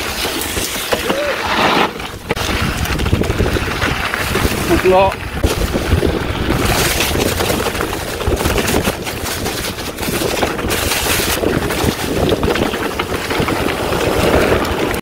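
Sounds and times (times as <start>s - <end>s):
bike rattling over bumps: 0.0s - 15.0s
tyres crackling through dry leaves: 0.0s - 15.0s
wind on microphone: 1.6s - 15.0s.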